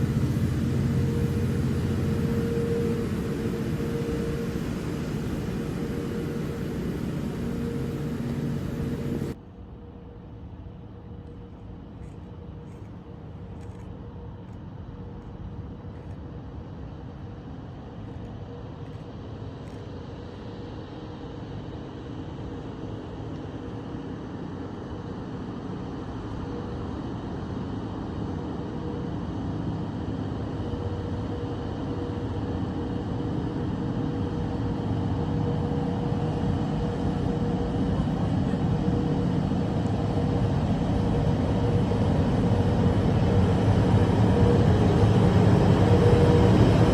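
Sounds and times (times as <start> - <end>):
diesel train engine rumble: 0.0 - 19.4, 25.7 - 46.9.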